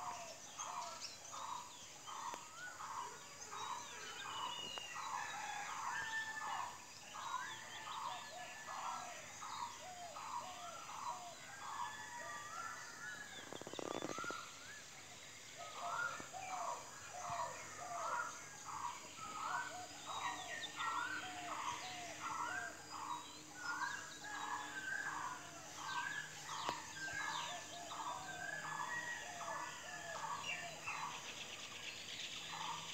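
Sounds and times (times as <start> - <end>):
chorus of animal calls: 0.0 - 32.9.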